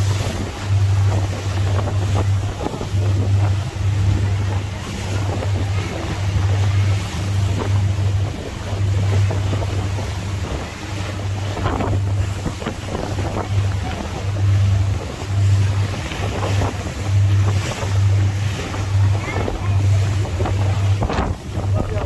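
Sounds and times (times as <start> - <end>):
moving boat noise: 0.0 - 22.0
water rushing: 0.0 - 22.0
wind buffeting microphone: 0.0 - 22.0.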